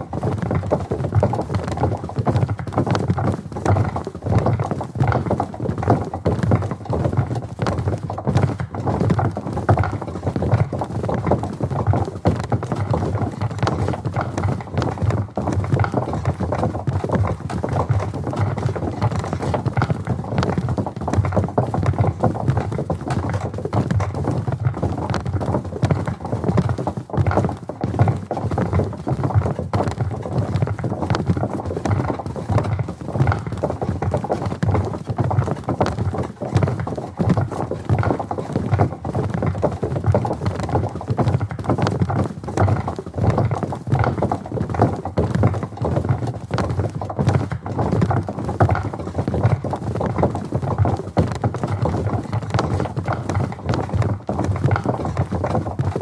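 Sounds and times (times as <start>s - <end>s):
footsteps on wooden bridge: 0.0s - 56.0s.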